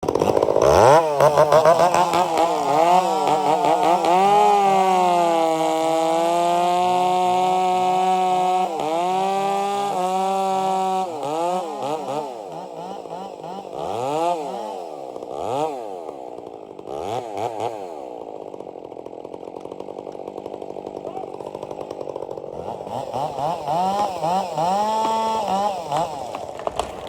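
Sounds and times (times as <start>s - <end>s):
chainsaw engine revving: 0.0s - 27.0s.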